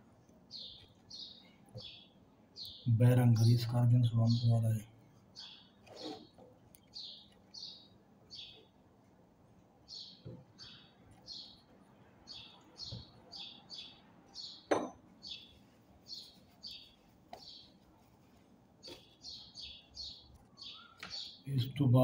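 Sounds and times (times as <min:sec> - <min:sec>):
small bird chirping: 0:00.4 - 0:08.8, 0:09.8 - 0:21.7.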